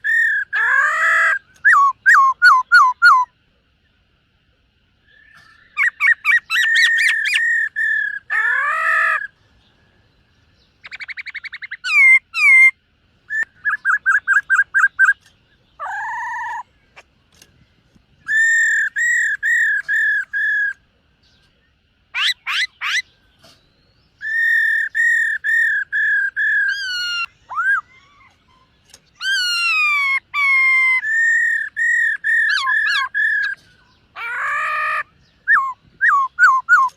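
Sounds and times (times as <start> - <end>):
bird singing whistled notes: 0.0 - 3.4, 5.0 - 36.9.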